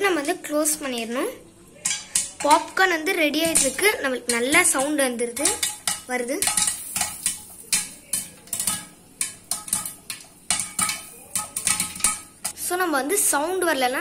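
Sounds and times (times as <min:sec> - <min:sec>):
popcorn popping in metal pot: 0:00.0 - 0:14.0.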